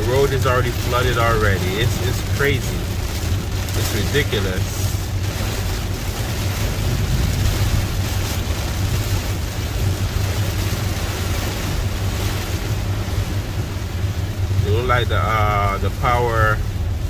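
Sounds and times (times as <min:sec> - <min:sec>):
heavy rain hitting a car: 0:00.0 - 0:17.0
low rumble of car: 0:00.0 - 0:17.0
tyres running through water: 0:00.0 - 0:17.0.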